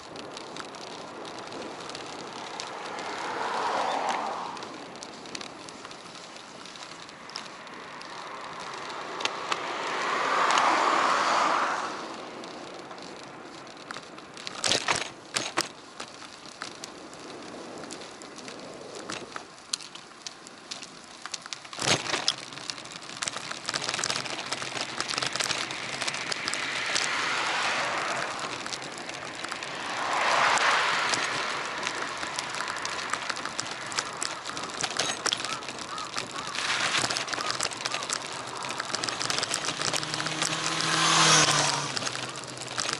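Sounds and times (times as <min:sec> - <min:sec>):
wind and tyres rushing: 0:00.0 - 0:42.9.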